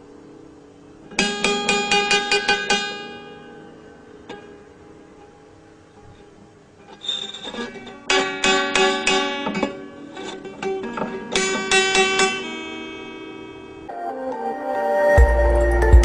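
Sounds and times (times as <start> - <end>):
plucked string instrument: 1.1 - 16.0.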